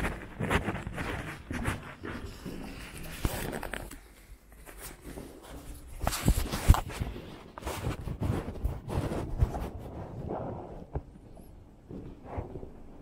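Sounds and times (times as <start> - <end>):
footsteps with knocks and thumps: 0.0 - 13.0.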